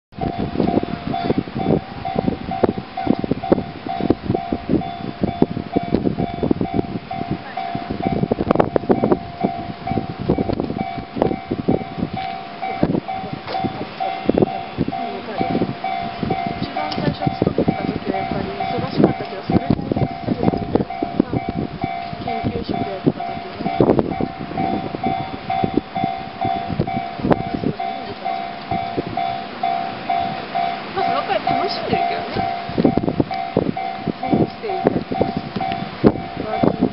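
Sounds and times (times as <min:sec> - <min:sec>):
level crossing bell clanging: 0:00.2 - 0:36.9.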